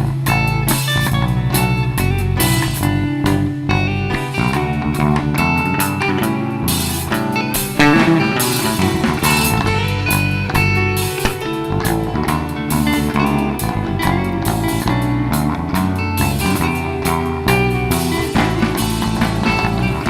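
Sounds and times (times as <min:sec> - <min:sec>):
live band instrumental: 0:00.0 - 0:20.0.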